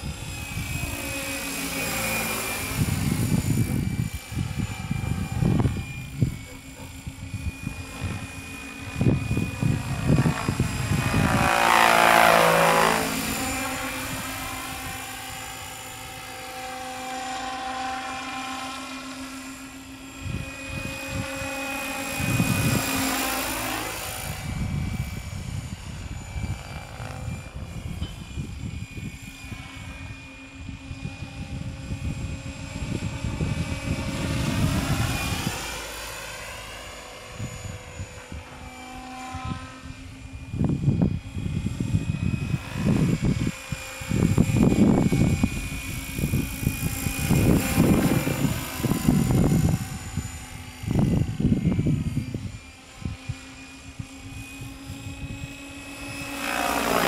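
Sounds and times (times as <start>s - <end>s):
wind buffeting microphone: 0.0s - 17.4s, 19.3s - 57.0s
model helicopter rotor whine: 0.0s - 57.0s.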